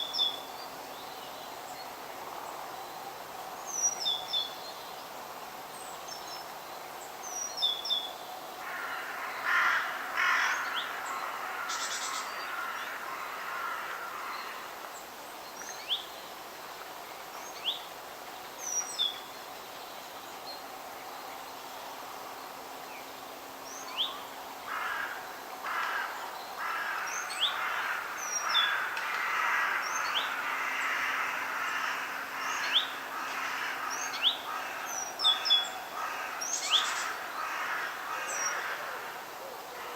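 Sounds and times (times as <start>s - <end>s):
faint background hiss: 0.0s - 39.9s
forest birds calling: 0.0s - 39.9s.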